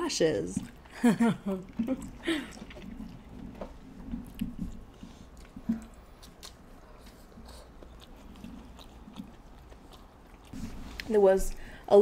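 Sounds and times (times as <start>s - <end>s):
chewing and wet mouth sounds: 0.3s - 11.8s.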